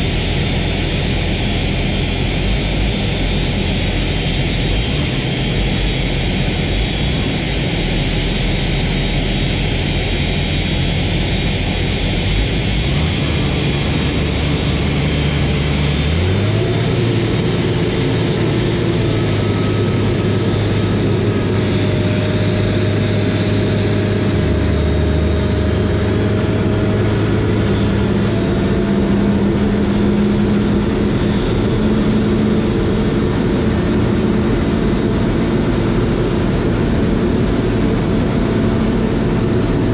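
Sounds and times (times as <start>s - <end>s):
aircraft tug engine humming: 0.0s - 39.9s
jet engine hiss and whine: 0.0s - 39.9s.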